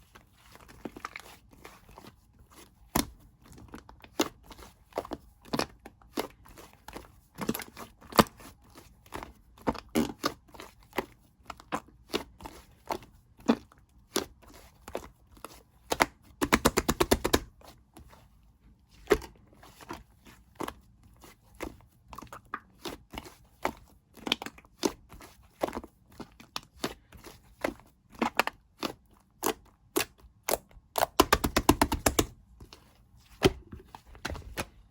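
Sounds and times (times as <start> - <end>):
slime kneaded by hand: 0.3 - 34.9.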